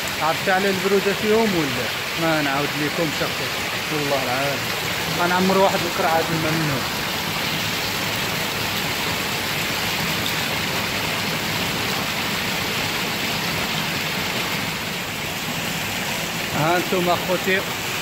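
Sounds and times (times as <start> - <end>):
water pouring and splashing: 0.0 - 18.0.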